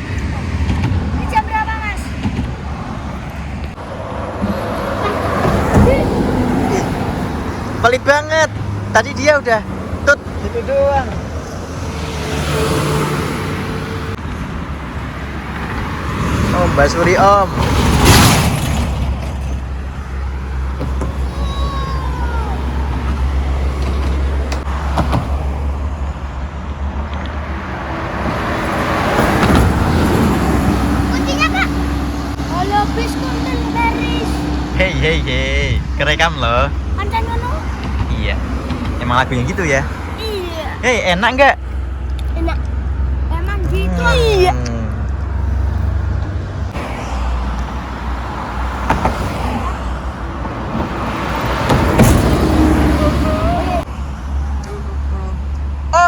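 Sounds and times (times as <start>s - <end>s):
heavy vehicle engine rumbling: 0.0s - 56.0s
tyre and road noise: 0.0s - 56.0s.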